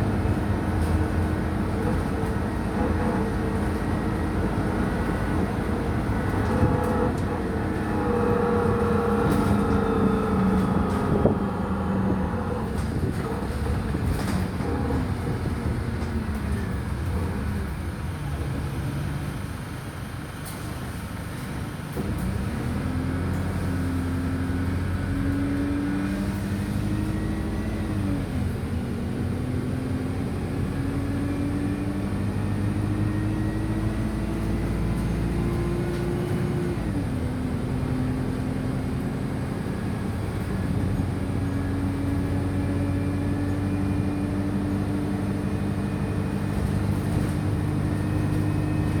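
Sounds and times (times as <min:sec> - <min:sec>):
bus engine accelerating: 0:00.0 - 0:49.0.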